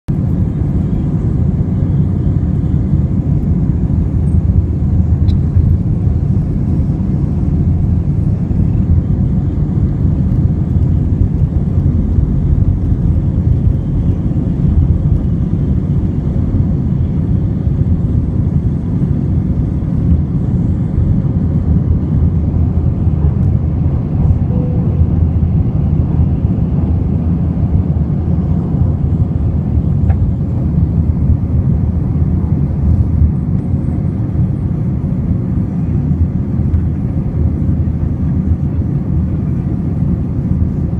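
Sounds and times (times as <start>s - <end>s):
jet engines rumbling in cabin: 0.1s - 40.9s.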